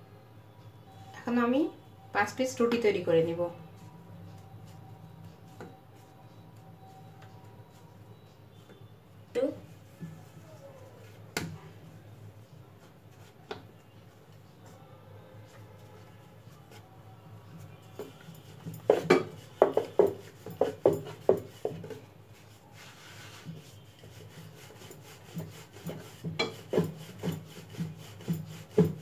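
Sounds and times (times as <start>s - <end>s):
rolling pin rolling dough: 2.6s - 29.0s.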